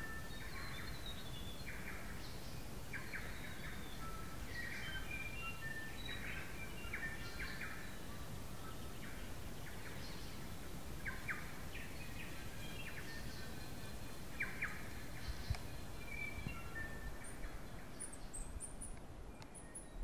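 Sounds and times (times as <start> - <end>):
songbirds chirping and whistling: 0.0 - 20.0.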